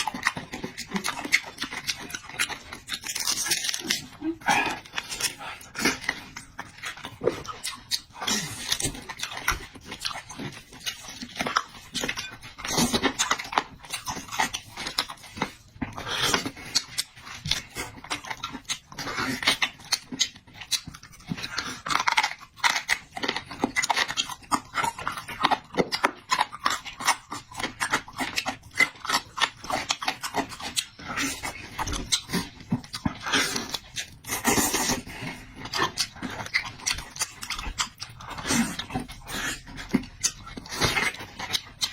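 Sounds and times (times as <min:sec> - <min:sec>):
wet chewing mouth sounds: 0:00.0 - 0:41.9.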